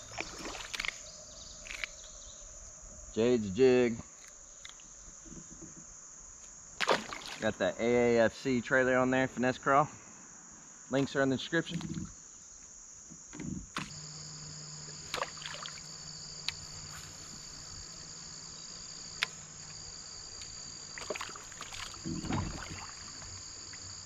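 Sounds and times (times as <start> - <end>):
insect chorus chirring: 0.0 - 24.0.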